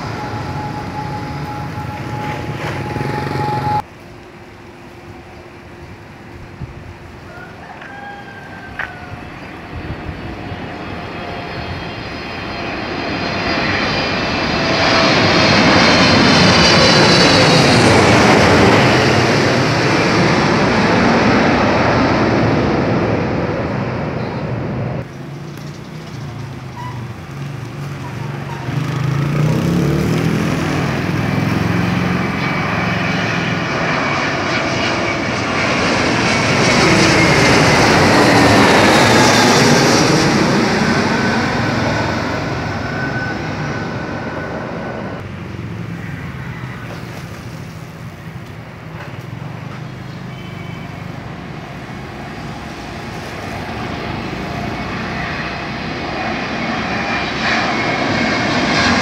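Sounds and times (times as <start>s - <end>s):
falling engine whine: 0.0s - 7.6s, 8.5s - 59.0s
jet airliner passing overhead: 0.0s - 59.0s.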